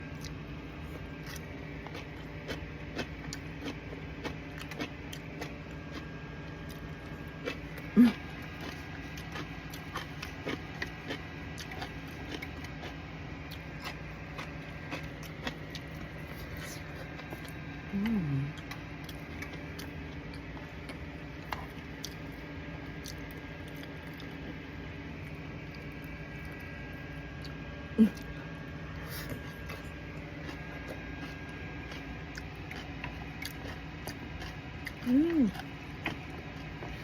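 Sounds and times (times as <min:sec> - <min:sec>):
chewing and crunching: 0:00.0 - 0:37.0
steady hum: 0:00.0 - 0:37.0.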